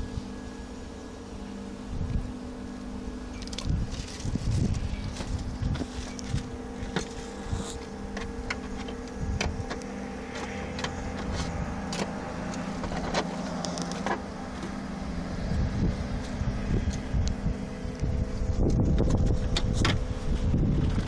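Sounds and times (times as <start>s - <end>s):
low mechanical hum: 0.0s - 21.0s
rumble: 1.4s - 21.0s.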